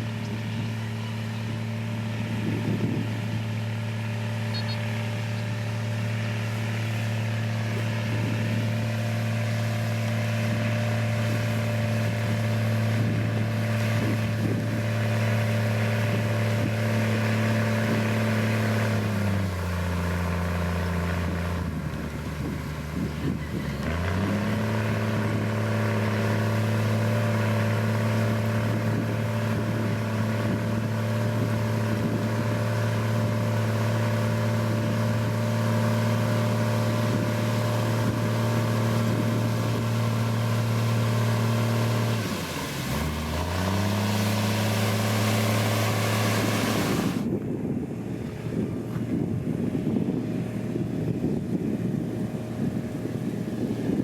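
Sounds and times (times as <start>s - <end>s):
construction machine diesel engine: 0.0s - 54.0s
low noisy rumble: 0.0s - 54.0s.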